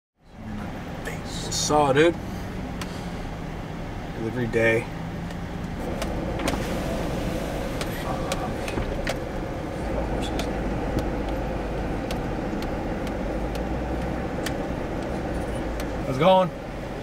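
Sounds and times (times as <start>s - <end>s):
vehicle engine and road rumble: 0.2s - 17.0s.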